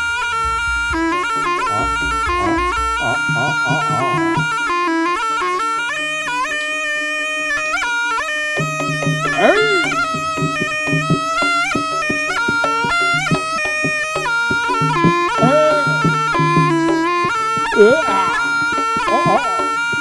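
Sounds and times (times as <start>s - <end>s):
percussion strikes: 0.0s - 5.8s, 8.6s - 20.0s
shawm melody: 0.0s - 20.0s.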